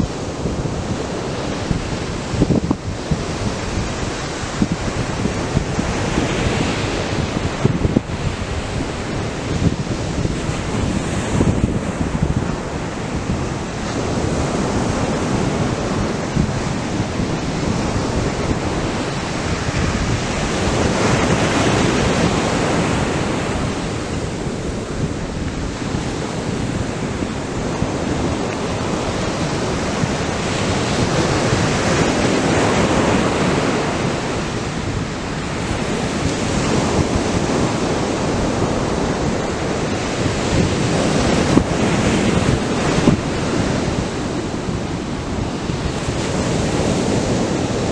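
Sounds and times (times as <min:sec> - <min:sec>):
surf breaking on a beach: 0:00.0 - 0:47.9
wind buffeting microphone: 0:00.0 - 0:47.9.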